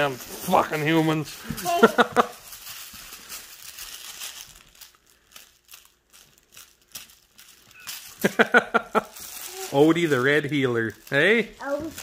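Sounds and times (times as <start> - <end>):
plush toy rustling and crinkling: 0.0 - 12.0.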